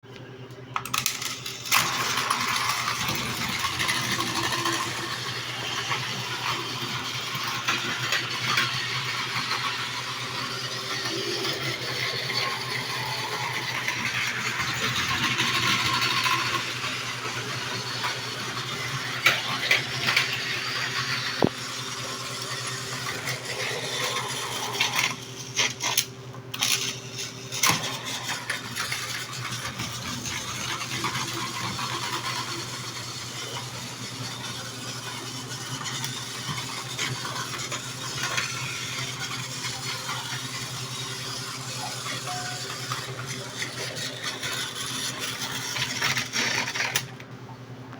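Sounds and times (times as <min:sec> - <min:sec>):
electric train motor hum: 0:00.4 - 0:47.9.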